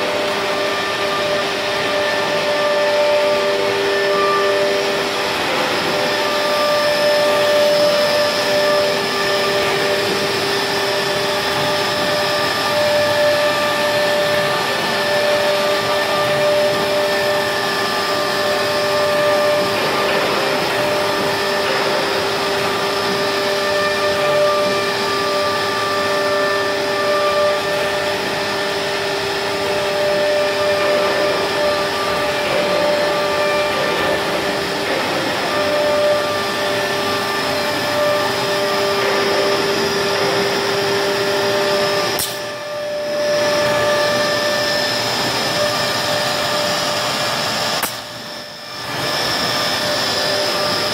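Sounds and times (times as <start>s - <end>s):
router spindle whine: 0.0s - 50.9s.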